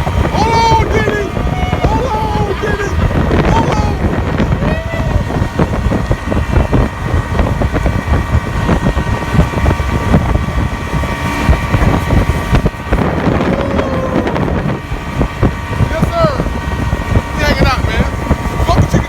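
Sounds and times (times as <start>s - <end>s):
motorboat running: 0.0s - 19.0s
wind buffeting microphone: 0.0s - 19.0s.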